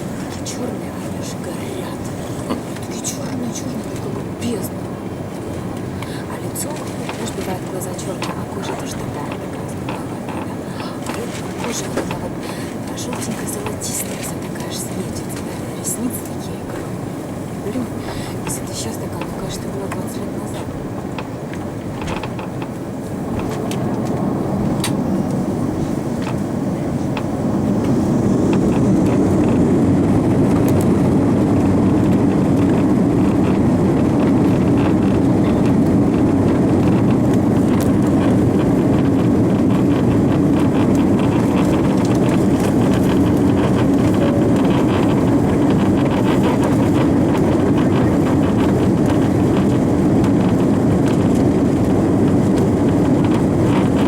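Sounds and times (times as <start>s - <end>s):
jet engines rising to takeoff thrust: 0.0s - 54.0s
loud rumble of airliner rolling: 0.0s - 54.0s.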